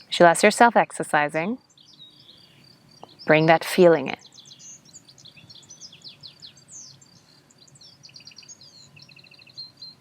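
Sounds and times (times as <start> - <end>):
birds chirping and singing: 0.0 - 10.0.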